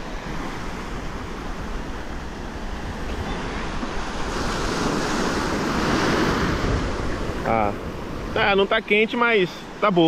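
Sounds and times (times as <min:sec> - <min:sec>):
wind on microphone: 0:00.0 - 0:08.6
small waves washing onto shore: 0:00.0 - 0:10.0.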